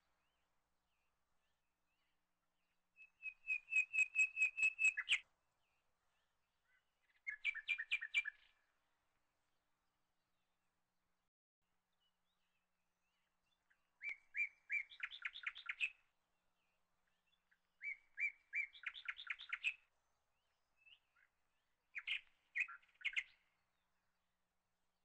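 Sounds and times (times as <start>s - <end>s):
songbird chirping and trilling: 0.2s - 8.7s, 11.9s - 24.2s.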